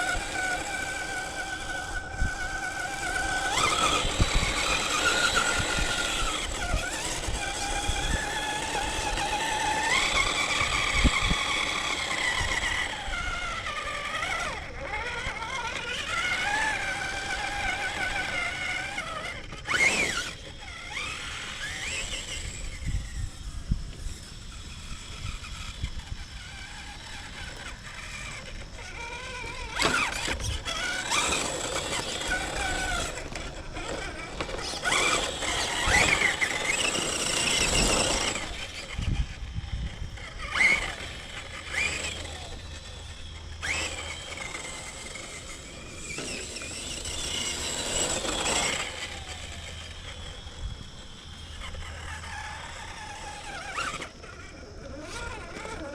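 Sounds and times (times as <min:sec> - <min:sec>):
toy car motor and gears whining: 0:00.0 - 0:55.9.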